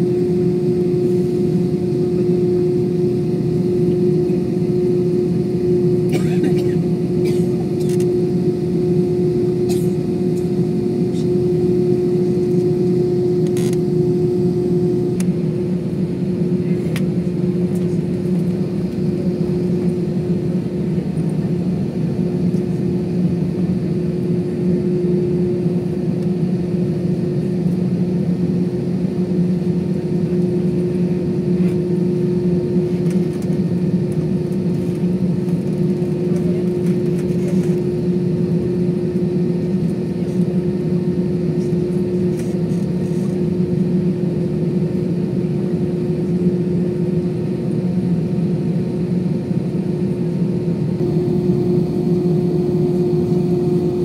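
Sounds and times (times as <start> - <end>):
jet engines humming in cabin: 0.0 - 54.0.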